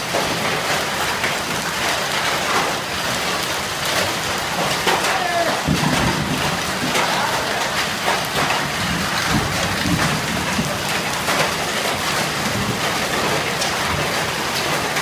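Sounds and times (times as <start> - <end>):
hail and heavy rain hissing: 0.0 - 15.0
hailstones clicking on hard surfaces: 0.0 - 15.0.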